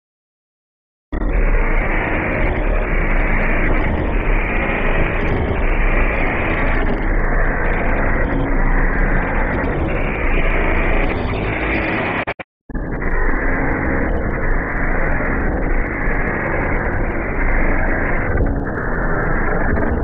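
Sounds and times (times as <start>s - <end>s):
harsh distorted noise with rumble: 1.1s - 20.0s.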